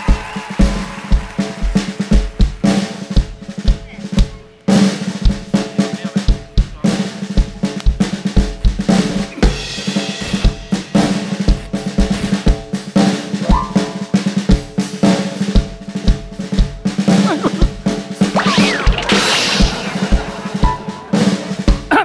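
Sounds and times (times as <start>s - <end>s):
band music: 0.0s - 22.0s
drum kit beat: 0.0s - 22.0s.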